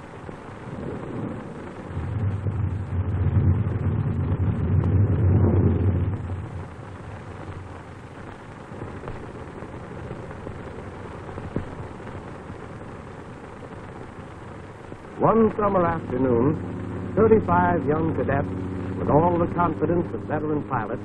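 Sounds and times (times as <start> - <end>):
film soundtrack noise: 0.0 - 21.0
thunder rumbling: 0.0 - 21.0.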